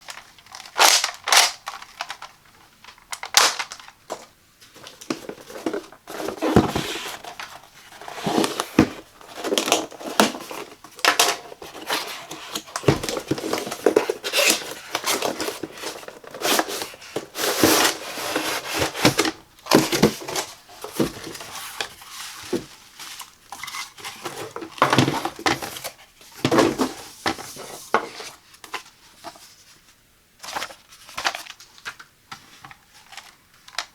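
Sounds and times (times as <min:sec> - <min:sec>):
packaging rustling and scraping: 0:00.0 - 0:33.9.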